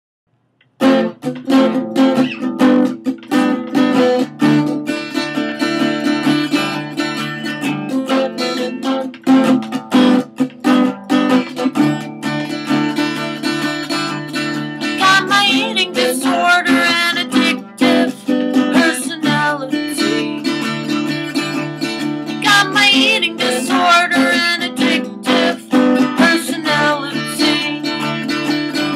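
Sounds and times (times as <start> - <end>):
acoustic guitar strumming: 0.7 - 28.9.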